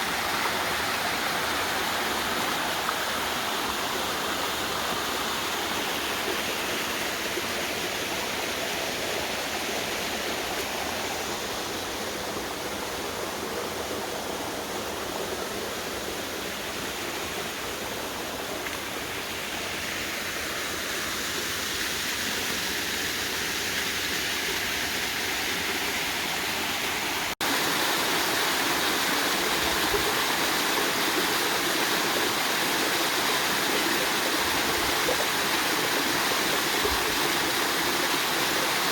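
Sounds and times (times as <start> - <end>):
waterfall and creek rushing: 0.0 - 38.9.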